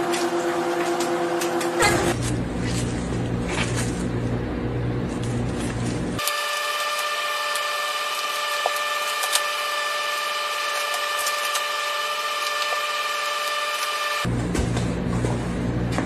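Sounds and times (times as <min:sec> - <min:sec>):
constant whine: 0:00.0 - 0:16.0.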